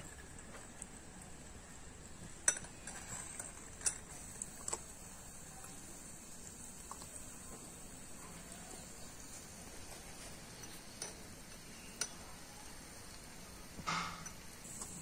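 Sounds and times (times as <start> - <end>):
dough sizzling in hot oil: 0.0 - 15.0.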